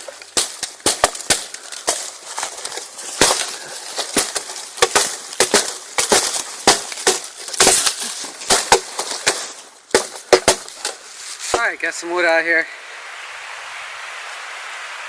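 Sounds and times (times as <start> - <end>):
dry wood and leaves crunching: 0.0 - 12.4.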